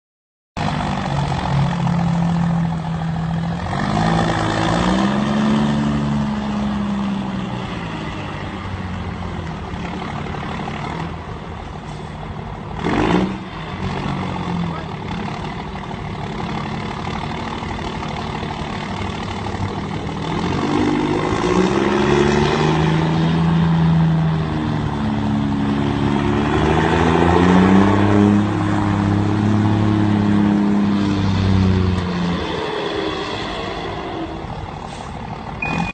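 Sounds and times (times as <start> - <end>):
diesel truck engine revving: 0.6 - 35.9.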